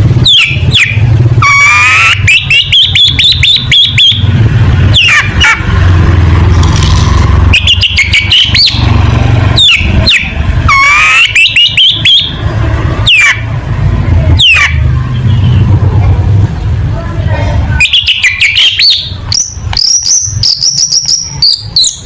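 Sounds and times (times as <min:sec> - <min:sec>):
bird chattering and whistling: 0:00.1 - 0:06.0, 0:07.3 - 0:13.6, 0:14.3 - 0:15.8, 0:17.8 - 0:22.0.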